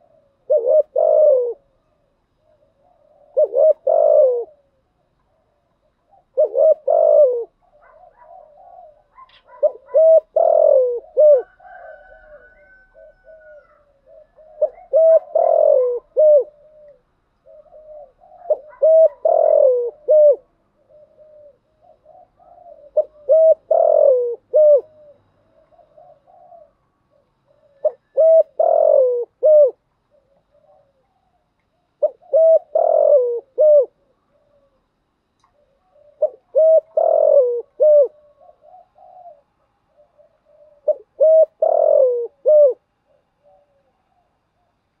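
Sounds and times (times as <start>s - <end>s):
dove cooing: 0.0s - 45.0s.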